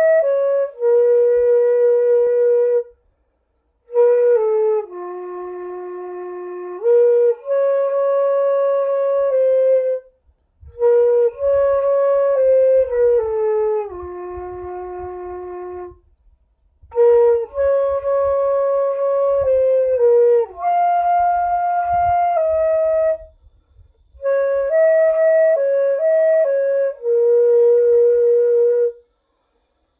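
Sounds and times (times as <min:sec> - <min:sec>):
bamboo flute melody: 0:00.0 - 0:03.1, 0:03.7 - 0:29.9.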